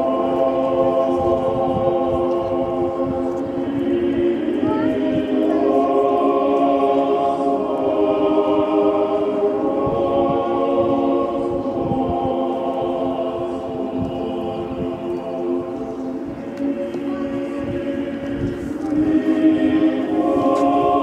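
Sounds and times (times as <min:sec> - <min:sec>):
choral music sustained chords: 0:00.0 - 0:21.0.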